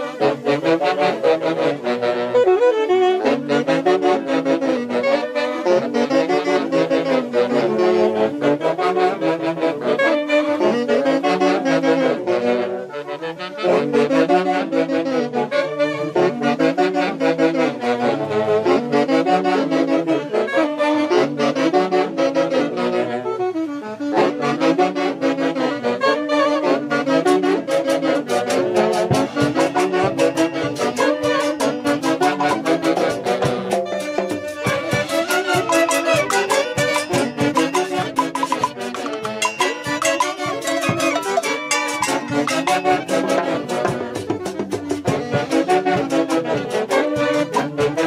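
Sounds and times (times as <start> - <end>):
saxophone and brass band music: 0.0 - 48.0.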